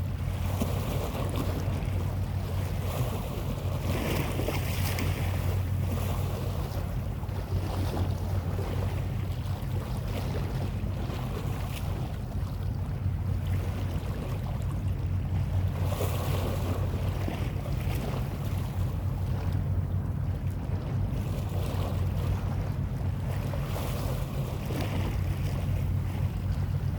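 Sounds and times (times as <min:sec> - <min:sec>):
boat engine humming: 0:00.0 - 0:26.9
water noise: 0:00.0 - 0:26.9
wind buffeting microphone: 0:00.0 - 0:26.9.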